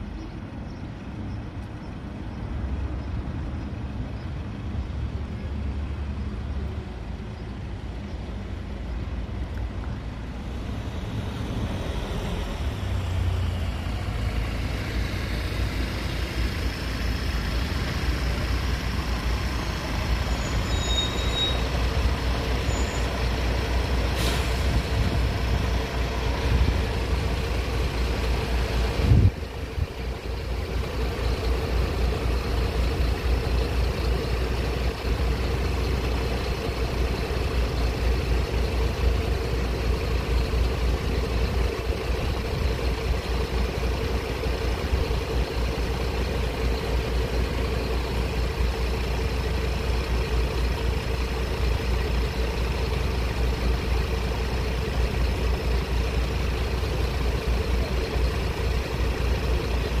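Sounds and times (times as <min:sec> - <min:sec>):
vehicle engines idling: 0:00.0 - 1:00.0.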